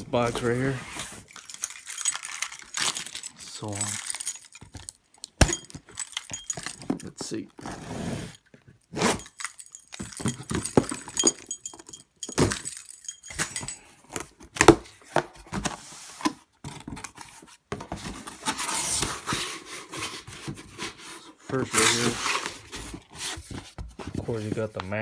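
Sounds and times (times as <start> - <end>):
cardboard packaging rustling: 0.0 - 25.0.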